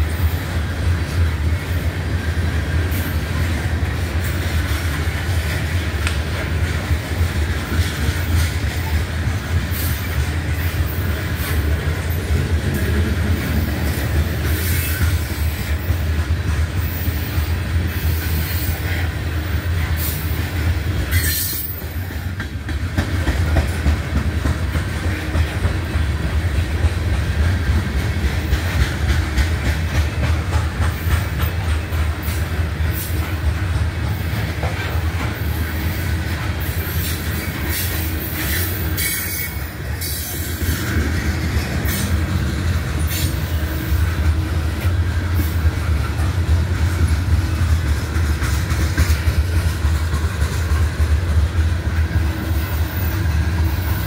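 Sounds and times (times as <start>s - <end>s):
train rumbling past: 0.0s - 54.0s
wheels clicking over rail joints: 2.6s - 54.0s.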